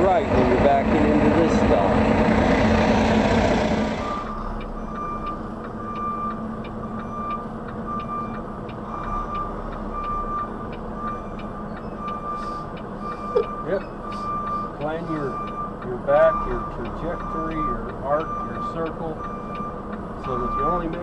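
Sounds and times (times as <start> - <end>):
truck engine running: 0.0 - 21.0
truck back-up alarm beeping: 4.0 - 21.0.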